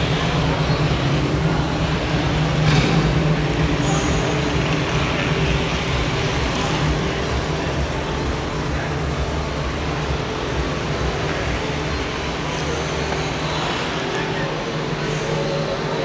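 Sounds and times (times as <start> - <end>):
constant low hum: 0.0 - 16.0
distant crowd voices: 0.0 - 16.0.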